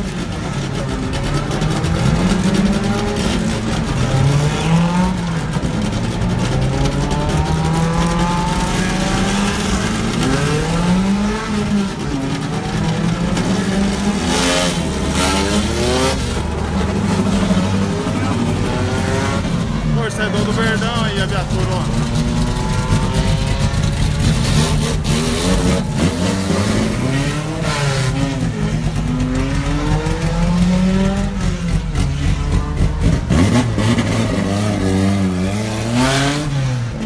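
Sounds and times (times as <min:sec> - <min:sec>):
loud rush of noise: 0:00.0 - 0:37.0
racing car engines revving: 0:00.0 - 0:37.0.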